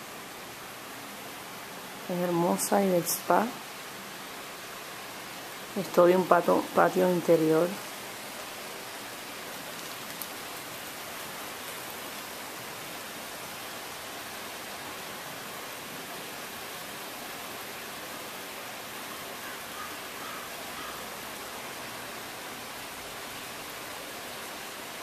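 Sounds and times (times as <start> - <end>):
running water hissing: 0.0 - 25.0.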